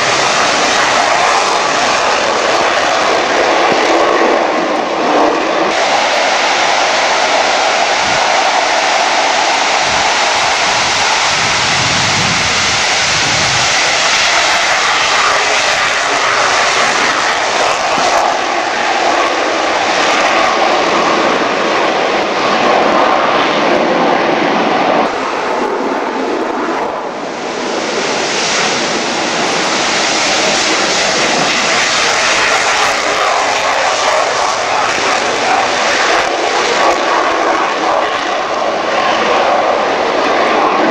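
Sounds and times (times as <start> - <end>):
jet engines taking off: 0.0 - 40.9.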